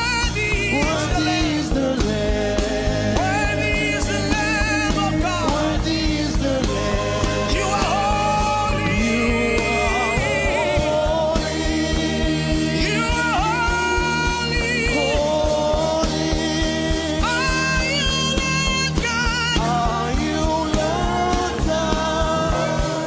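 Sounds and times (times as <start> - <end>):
accompaniment with steady beat: 0.0 - 23.0
lead voice singing with vibrato: 0.0 - 23.0.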